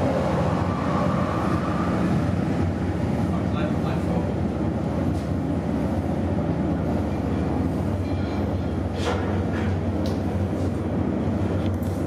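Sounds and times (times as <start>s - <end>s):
low mechanical machinery rumble: 0.0s - 12.0s.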